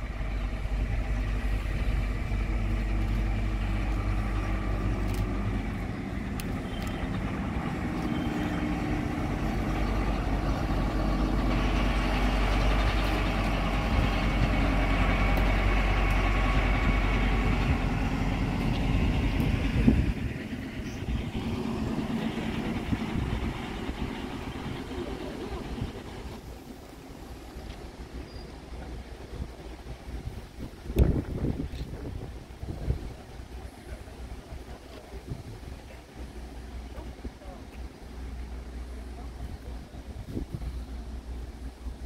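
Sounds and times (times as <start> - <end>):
diesel locomotive engine running: 0.0 - 42.0.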